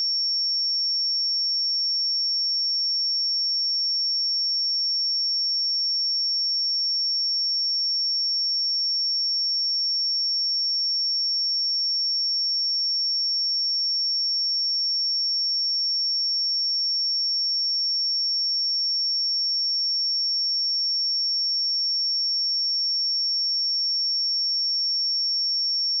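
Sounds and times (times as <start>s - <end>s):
high-pitched sine wave test tone: 0.0s - 26.0s.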